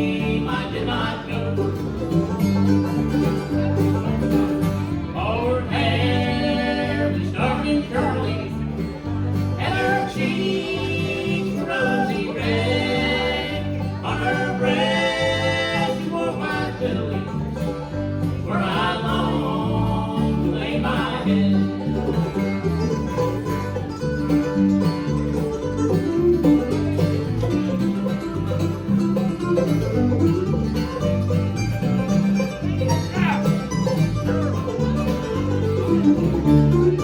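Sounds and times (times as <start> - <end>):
banjo and guitar picking: 0.0 - 37.0.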